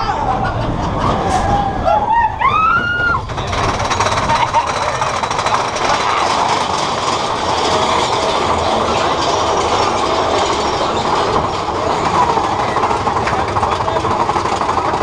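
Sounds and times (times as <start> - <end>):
roller coaster cars rattling: 0.0 - 15.0.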